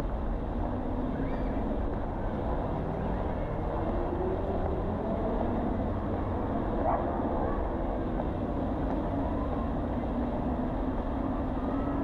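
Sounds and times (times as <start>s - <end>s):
motor traffic rumble: 0.0s - 12.0s.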